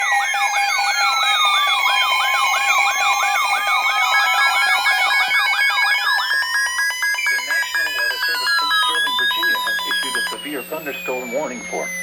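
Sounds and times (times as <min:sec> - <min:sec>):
fast yelping siren: 0:00.0 - 0:12.0
steady electronic tones: 0:00.0 - 0:12.0
wailing siren glides: 0:00.0 - 0:12.0.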